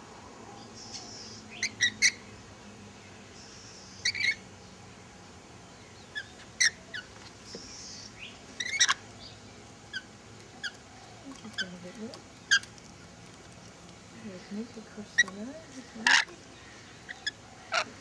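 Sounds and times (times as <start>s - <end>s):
birds chirping: 0.5s - 18.0s.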